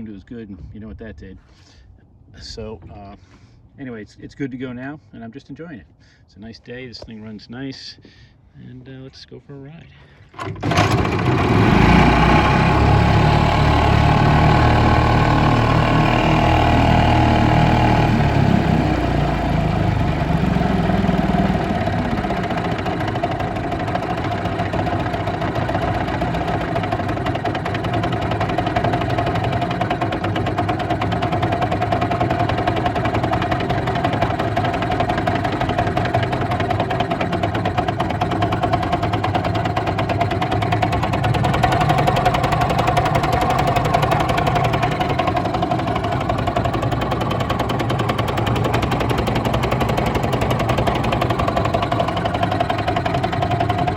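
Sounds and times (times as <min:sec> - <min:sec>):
outboard motor running: 0:10.3 - 0:53.9.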